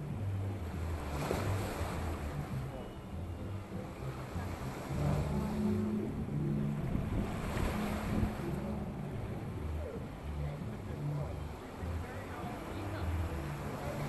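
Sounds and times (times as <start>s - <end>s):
low hum of changing notes: 0.0s - 14.0s
waves splashing against seawall: 0.0s - 14.0s.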